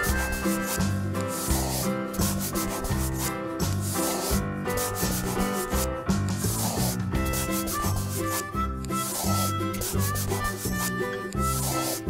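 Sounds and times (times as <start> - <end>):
background music with bass line: 0.0 - 12.0
scratchy scribbling: 0.0 - 12.0.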